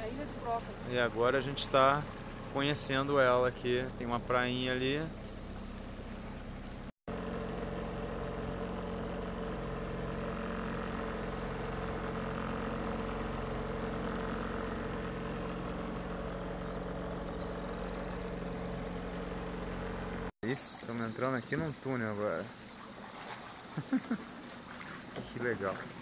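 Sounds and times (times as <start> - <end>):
motorboat engine droning: 0.0 - 26.0
wind: 0.0 - 26.0.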